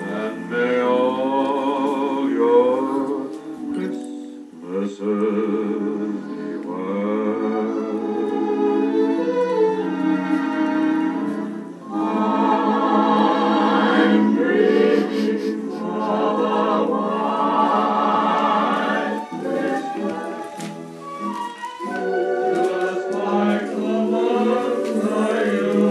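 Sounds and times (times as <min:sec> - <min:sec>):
choir singing held chords: 0:00.0 - 0:25.9.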